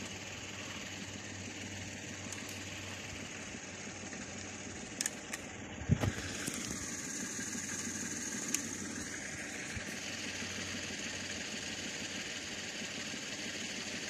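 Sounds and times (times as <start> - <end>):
low engine-like drone: 0.0 - 14.0.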